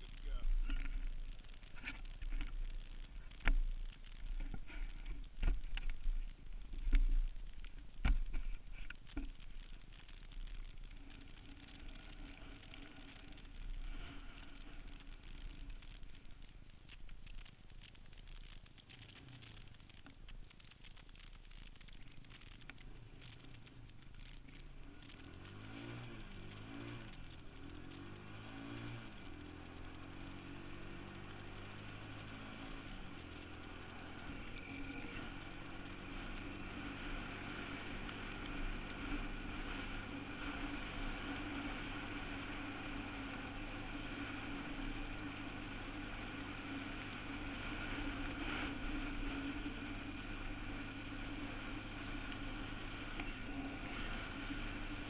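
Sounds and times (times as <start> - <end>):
atv engine revving: 0.0 - 16.5, 23.0 - 55.0.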